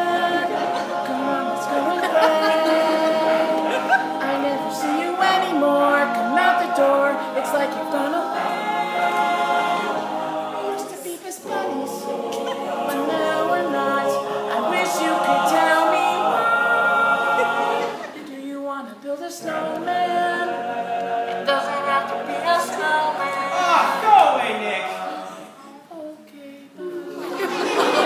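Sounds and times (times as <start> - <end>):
wordless backing harmonies: 0.0 - 28.0.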